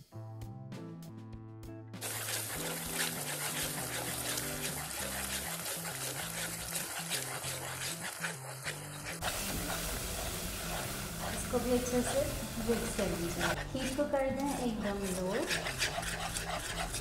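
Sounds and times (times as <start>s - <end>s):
background music: 0.0s - 17.0s
caramel bubbling and sizzling: 2.0s - 17.0s.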